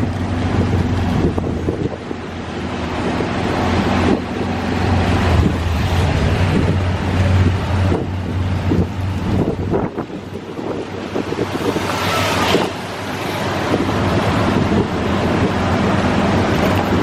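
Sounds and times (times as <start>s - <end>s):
vehicle low hum: 0.0s - 17.0s
wind buffeting microphone: 0.0s - 17.0s.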